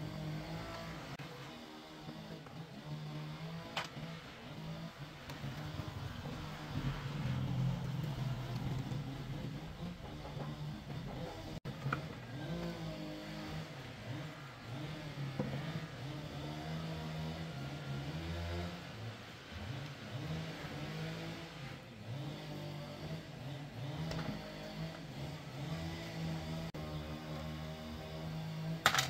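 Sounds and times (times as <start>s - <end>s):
engine revving: 0.0s - 29.0s.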